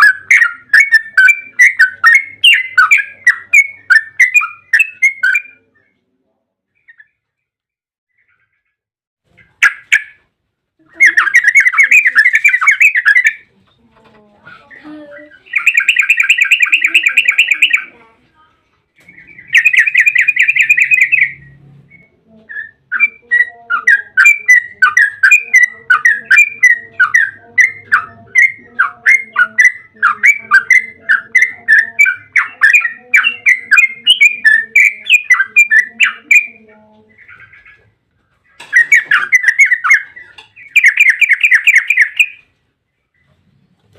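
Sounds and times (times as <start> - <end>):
bird chattering and chirping: 0.0 - 5.9, 9.3 - 10.3, 10.9 - 18.2, 19.0 - 43.9.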